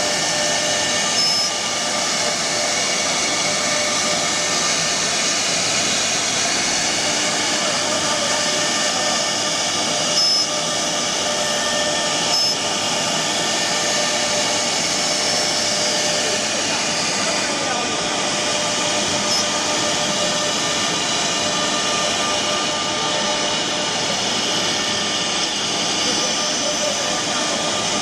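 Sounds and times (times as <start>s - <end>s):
wood router spindle whine: 0.0s - 28.0s.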